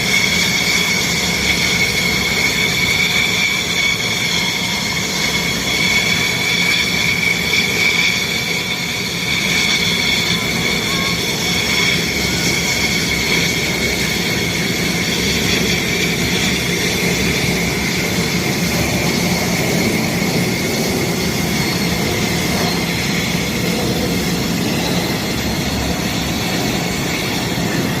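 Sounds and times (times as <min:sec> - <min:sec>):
jet exhaust rush: 0:00.0 - 0:28.0
jet turbine whine: 0:00.0 - 0:28.0.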